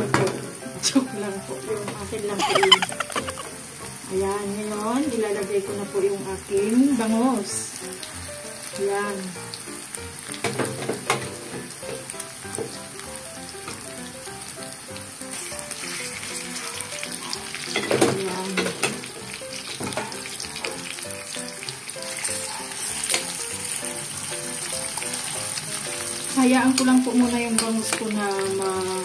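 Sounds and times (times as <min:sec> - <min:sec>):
fish sizzling in hot oil: 0:00.0 - 0:29.0
soft background music: 0:00.0 - 0:29.0.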